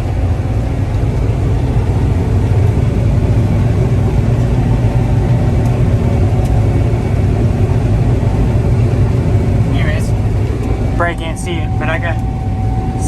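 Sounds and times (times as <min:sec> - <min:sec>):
combine harvester low rumble: 0:00.0 - 0:13.0.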